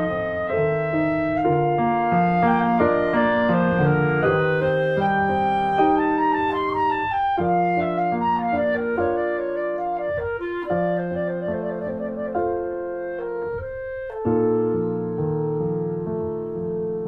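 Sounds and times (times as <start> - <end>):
slow instrumental melody: 0.0 - 17.0.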